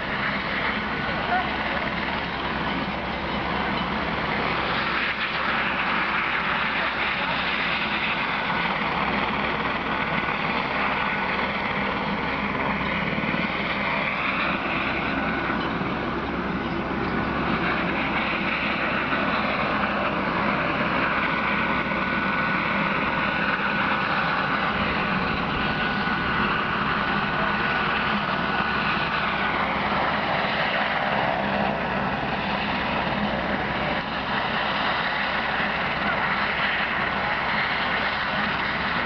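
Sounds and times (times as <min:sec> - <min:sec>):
faint steady whine: 0:00.0 - 0:39.0
vehicle engine and wind noise: 0:00.0 - 0:39.0.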